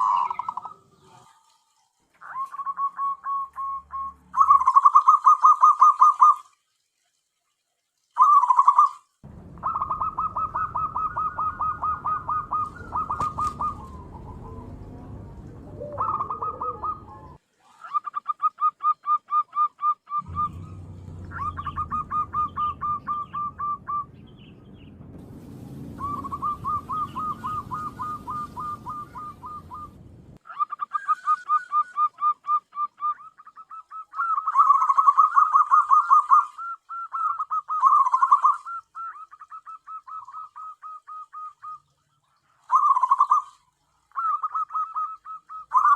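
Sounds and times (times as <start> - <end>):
dove calling in pulsed notes: 0.0 - 1.4, 2.2 - 6.5, 8.2 - 25.0, 25.9 - 45.9.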